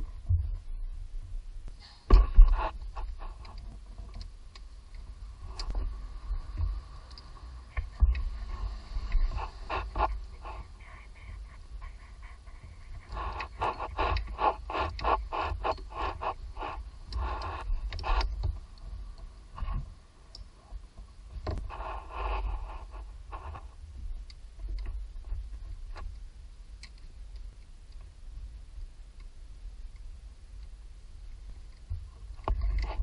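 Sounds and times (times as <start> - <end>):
low steady rumble: 0.0 - 33.0.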